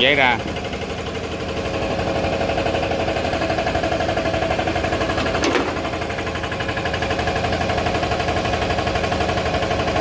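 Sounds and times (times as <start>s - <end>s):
rewinding machine running: 0.0s - 10.0s.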